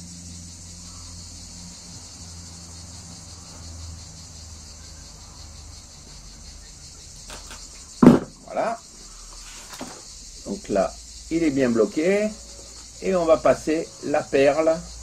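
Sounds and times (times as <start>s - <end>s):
insects shrilling: 0.0s - 15.0s.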